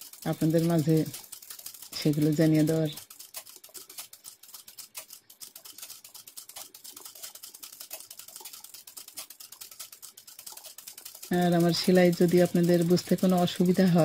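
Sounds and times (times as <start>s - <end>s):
sewing machine stitching: 0.0s - 14.0s.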